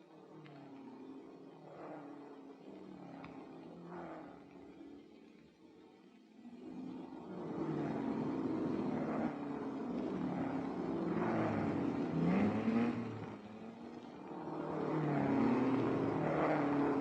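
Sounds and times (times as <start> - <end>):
racing car engines accelerating: 0.0 - 17.0.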